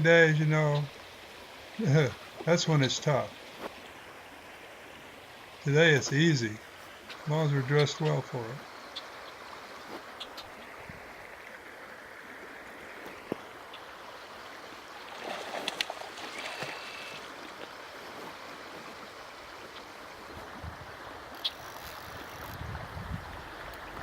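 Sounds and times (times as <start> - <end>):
river rushing over streambed: 0.0 - 24.0.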